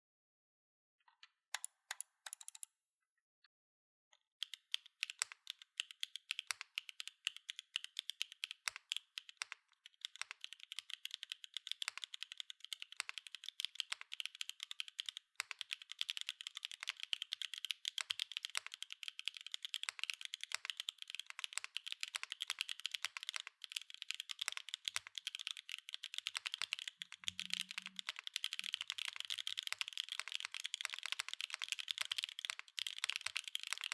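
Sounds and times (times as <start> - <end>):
mechanical keyboard typing: 1.6 - 2.7, 4.4 - 33.9.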